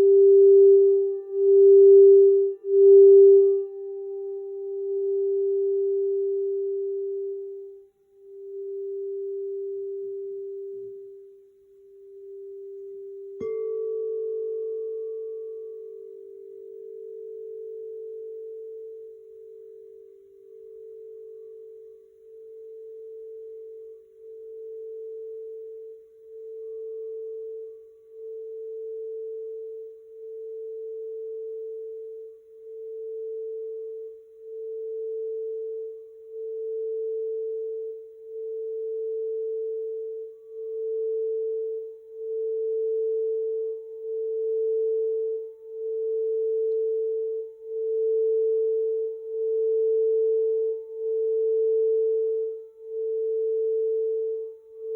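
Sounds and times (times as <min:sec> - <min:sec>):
singing bowl tone: 0:00.0 - 0:54.9.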